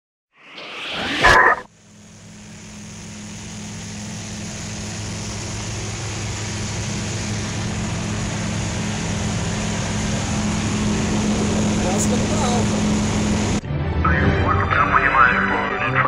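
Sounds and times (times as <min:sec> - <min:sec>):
rushing air: 0:00.4 - 0:13.6
propeller airplane engine drone: 0:00.4 - 0:16.0.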